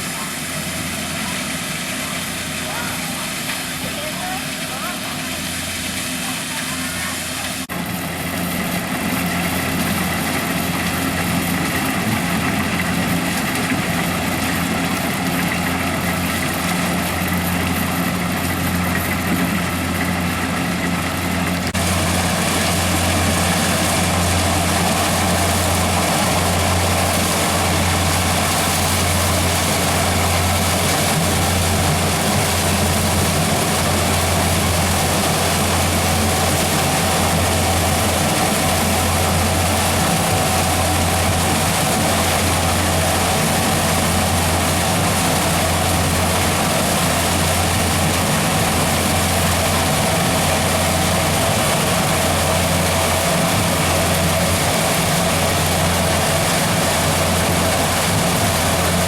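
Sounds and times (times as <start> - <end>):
harvester engine hum: 0.0 - 59.0
rushing mechanical noise: 0.0 - 59.0.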